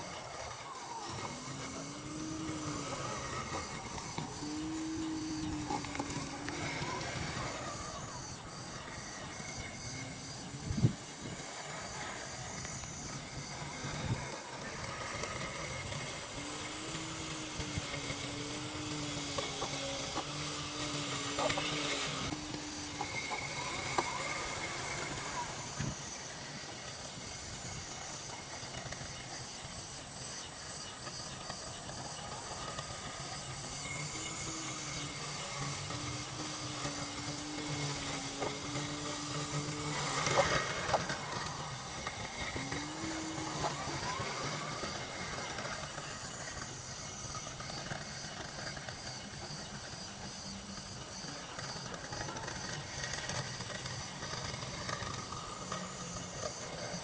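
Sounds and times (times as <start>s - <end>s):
low whine: 0.0s - 57.0s
robotic lawn mower humming: 0.0s - 57.0s.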